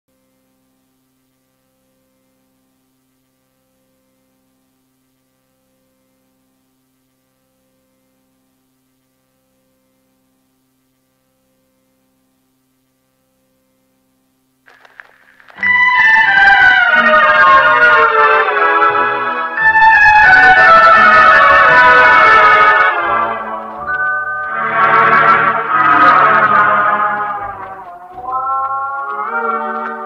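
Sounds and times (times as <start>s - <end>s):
faint pulsing electrical hum: 0.1s - 30.0s.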